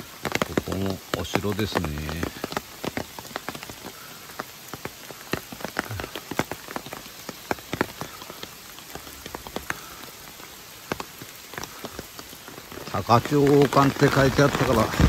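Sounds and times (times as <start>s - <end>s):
rain hissing in woodland: 0.0s - 15.0s
sharp raindrops striking: 0.0s - 15.0s.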